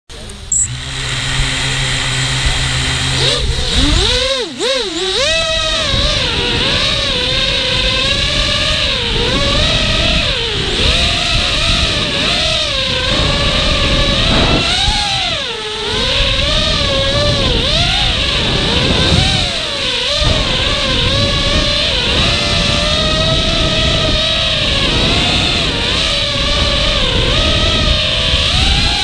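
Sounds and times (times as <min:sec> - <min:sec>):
quadcopter motors whining: 0:00.1 - 0:29.0.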